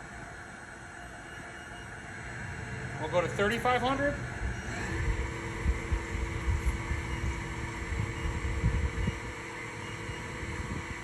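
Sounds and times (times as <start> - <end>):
mill spindle humming: 0.0 - 11.0.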